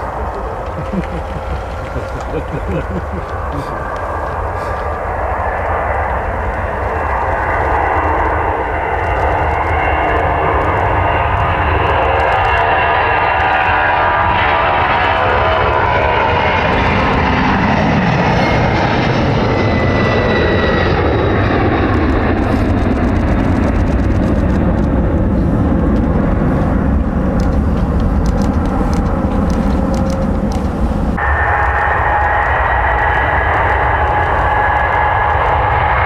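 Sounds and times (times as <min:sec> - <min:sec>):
jet airliner engine roar: 0:00.0 - 0:36.0
jet fan whine: 0:00.0 - 0:36.0.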